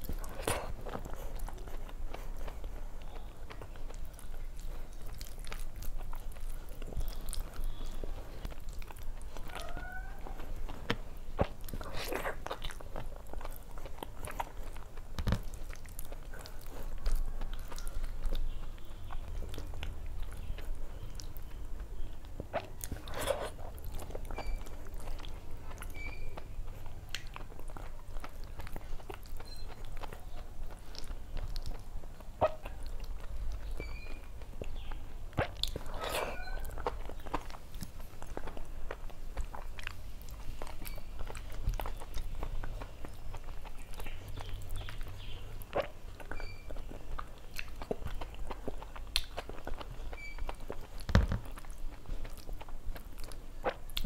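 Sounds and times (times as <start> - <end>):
chewing food: 0.0 - 54.0
mouth clicks and smacks: 0.0 - 54.0.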